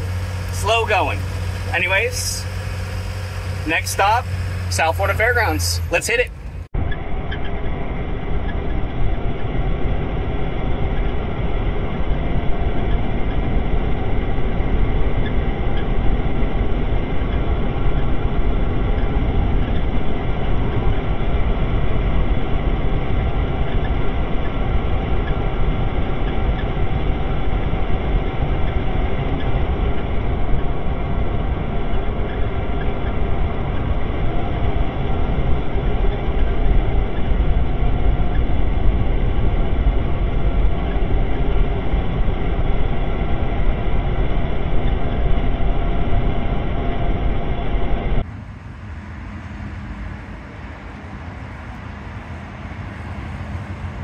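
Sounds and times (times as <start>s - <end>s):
truck engine and road drone: 0.0s - 54.0s.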